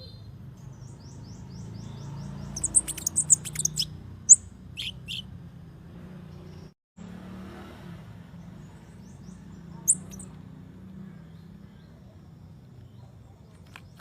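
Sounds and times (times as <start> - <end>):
songbird chattering song: 0.0 - 6.7, 8.4 - 14.0.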